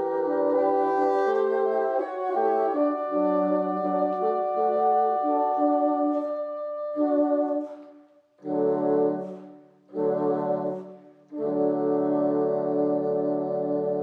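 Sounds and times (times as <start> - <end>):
bassoons playing sustained chords: 0.0 - 7.8, 8.4 - 14.0.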